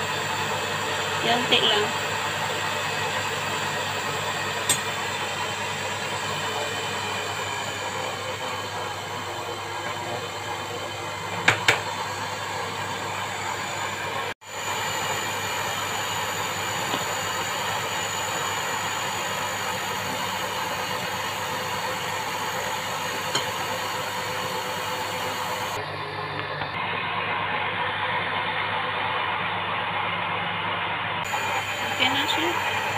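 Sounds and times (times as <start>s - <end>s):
electric mixer whirring: 0.0s - 32.9s.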